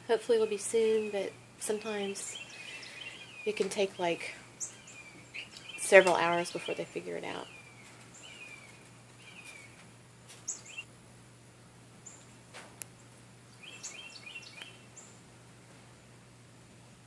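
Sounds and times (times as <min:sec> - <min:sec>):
small birds chirping: 0:00.3 - 0:10.9, 0:12.0 - 0:15.2.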